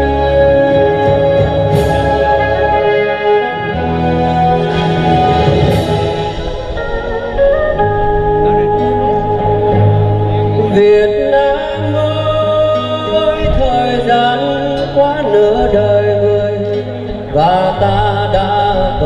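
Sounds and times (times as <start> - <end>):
wavering lead melody: 0.0 - 18.7
held bass notes: 0.0 - 19.0.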